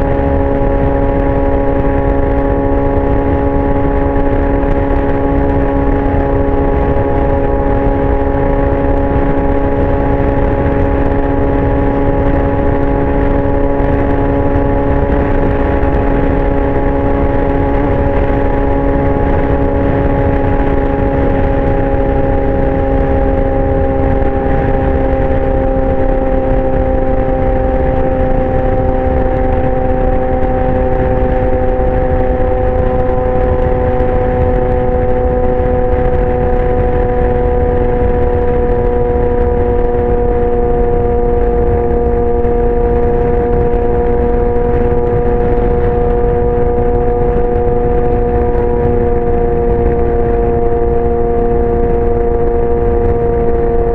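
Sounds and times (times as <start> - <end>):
motorcycle engine at high revs: 0.0 - 53.9
wind rush on microphone: 0.0 - 53.9.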